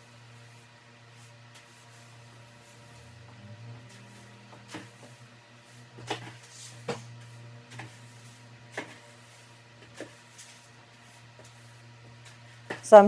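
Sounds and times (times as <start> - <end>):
broom sweeping floor: 0.0 - 13.0
steady low hum: 0.0 - 13.0.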